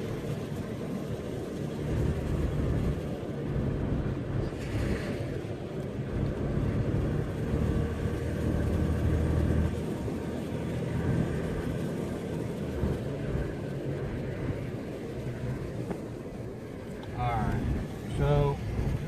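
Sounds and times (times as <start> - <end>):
car engine hum: 0.0 - 19.0
road noise: 0.0 - 19.0.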